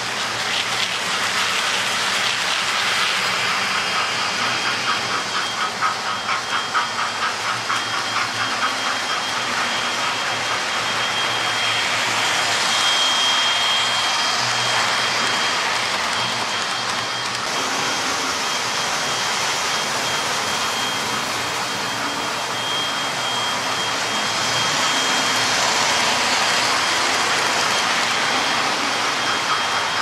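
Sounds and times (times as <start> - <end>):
model train motors whirring: 0.0 - 30.0
thin high whine: 1.2 - 30.0.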